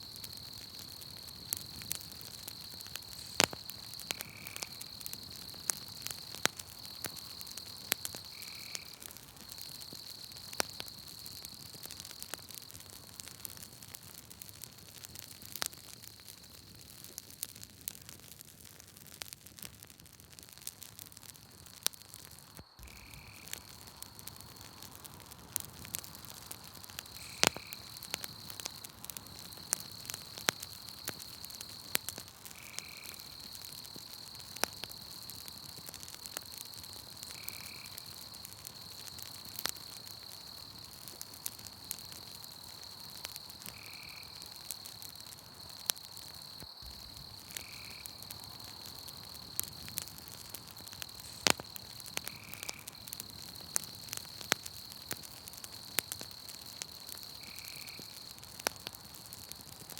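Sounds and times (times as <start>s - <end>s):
high insect trill: 0.0s - 13.4s, 22.3s - 59.7s
campfire crackling and popping: 0.0s - 59.9s.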